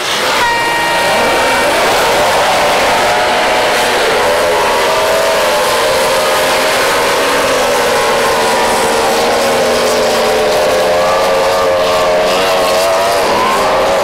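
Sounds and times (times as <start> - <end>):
powerboat engines whining: 0.0 - 14.0.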